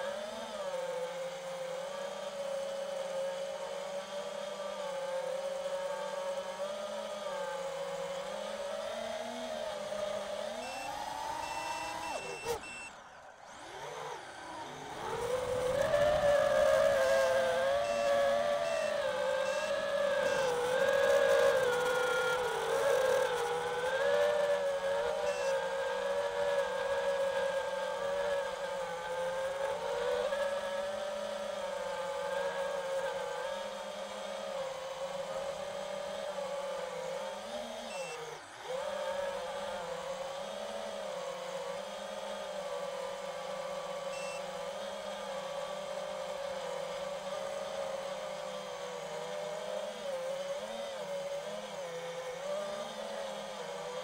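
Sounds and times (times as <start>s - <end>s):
quadcopter motors whining: 0.0s - 54.0s.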